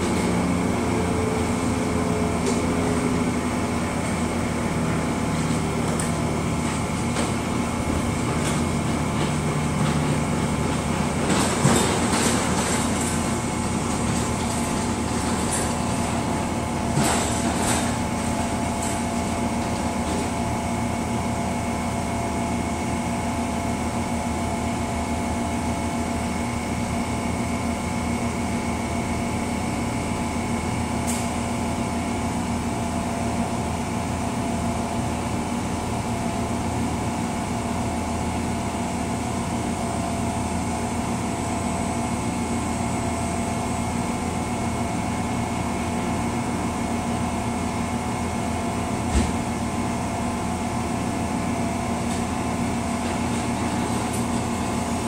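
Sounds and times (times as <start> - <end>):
train mechanical hum: 0.0 - 55.0.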